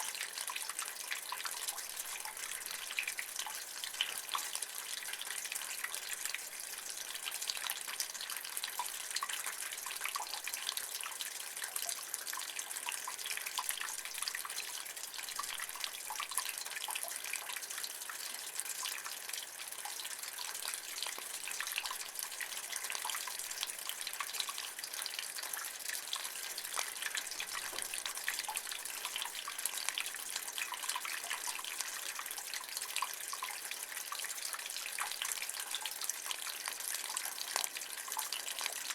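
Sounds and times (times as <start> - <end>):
rainwater trickling in a gutter: 0.0 - 38.9.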